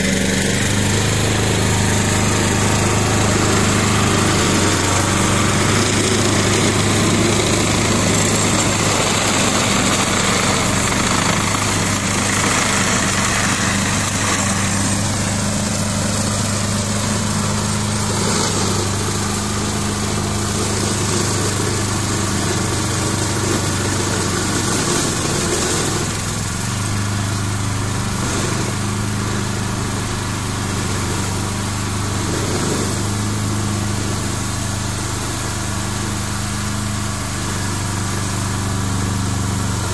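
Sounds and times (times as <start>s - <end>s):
brush shredder cutting cane: 0.0s - 39.9s
tractor diesel engine running: 0.0s - 39.9s.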